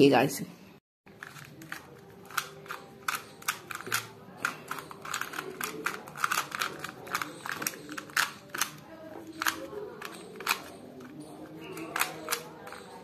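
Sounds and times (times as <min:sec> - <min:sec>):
puzzle cube layers clicking: 0:01.2 - 0:08.8, 0:09.4 - 0:13.0.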